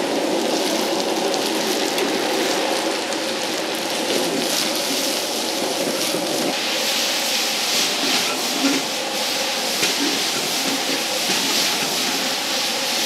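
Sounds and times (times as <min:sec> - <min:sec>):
peppers sizzling in a wok: 0:00.0 - 0:13.0.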